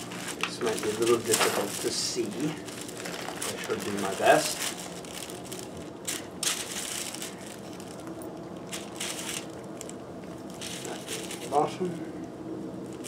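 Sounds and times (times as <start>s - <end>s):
fabric rustling and scraping: 0.0s - 8.0s, 8.6s - 11.7s.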